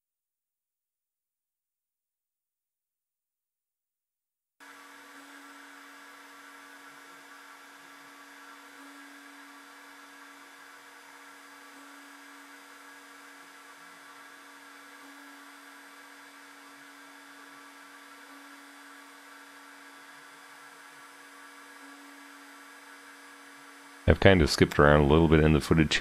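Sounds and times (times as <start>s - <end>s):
mill spindle humming: 4.6s - 26.0s.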